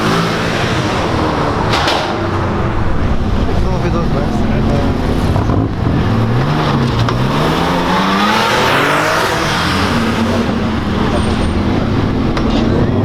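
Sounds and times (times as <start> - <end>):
sports car accelerating past: 0.0 - 13.0.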